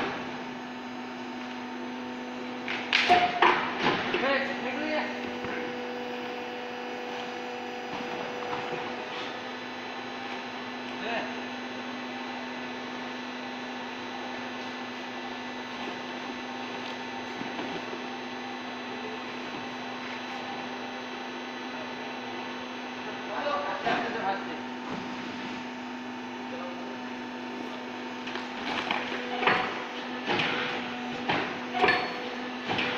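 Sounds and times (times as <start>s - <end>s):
hydraulic pump motor humming: 0.0s - 32.9s.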